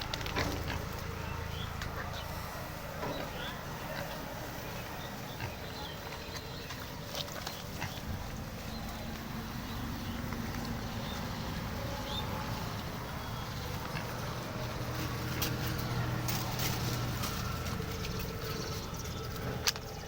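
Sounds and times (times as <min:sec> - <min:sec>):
pigs grunting: 0:00.1 - 0:19.7.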